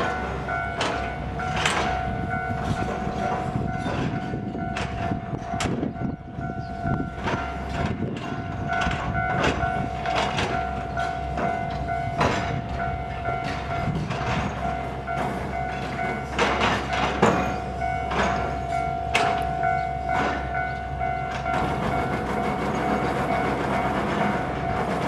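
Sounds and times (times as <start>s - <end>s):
level-crossing warning bell: 0.0s - 25.0s
train running past: 0.0s - 25.0s
train wheel clacks: 0.0s - 25.0s.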